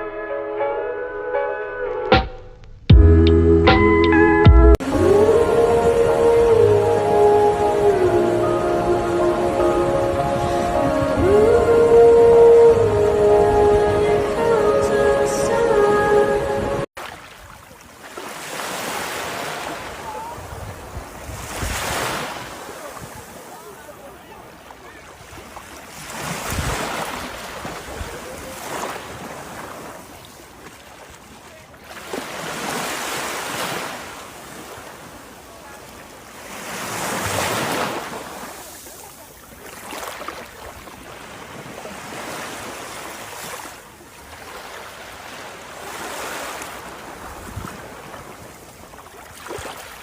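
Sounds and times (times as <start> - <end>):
sea waves breaking: 4.8 - 50.0.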